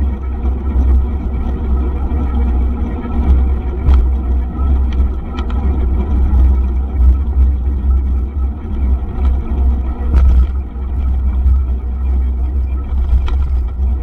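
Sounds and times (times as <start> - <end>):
bike rattling: 0.0 - 14.0
wind buffeting microphone: 0.0 - 14.0.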